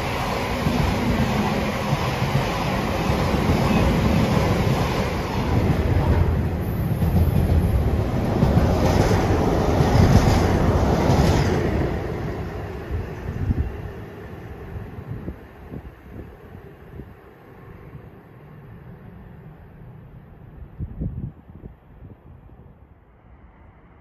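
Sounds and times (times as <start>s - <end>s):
freight train wagons rumbling past: 0.0s - 20.7s.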